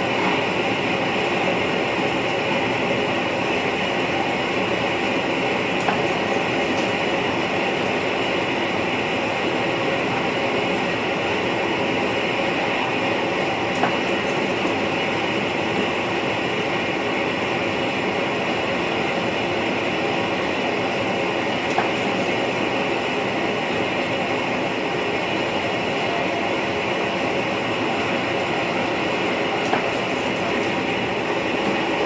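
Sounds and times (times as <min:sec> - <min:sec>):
train running noise inside cab: 0:00.0 - 0:32.0.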